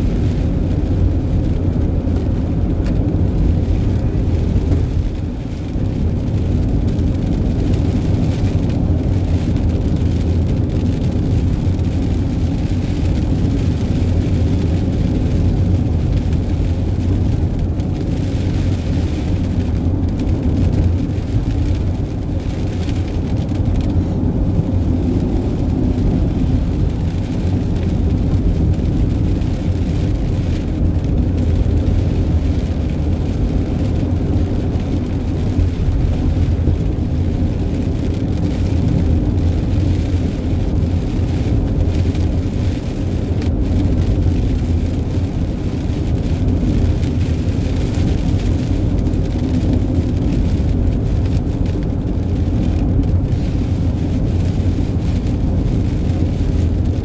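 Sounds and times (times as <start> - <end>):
road rumble: 0.0 - 57.0
tyres hissing on wet road: 0.0 - 57.0.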